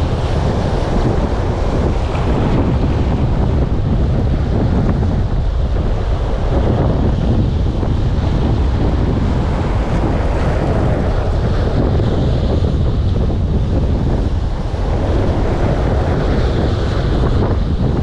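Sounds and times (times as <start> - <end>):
surf breaking on rocky shore: 0.0 - 18.0
wind buffeting microphone: 0.0 - 18.0.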